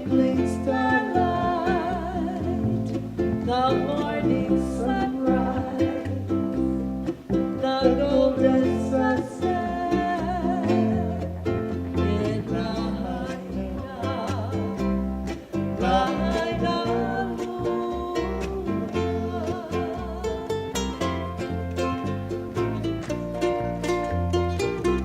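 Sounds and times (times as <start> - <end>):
bass line: 0.0 - 25.0
person singing: 0.0 - 25.0
plucked guitar and ukulele: 0.0 - 25.0.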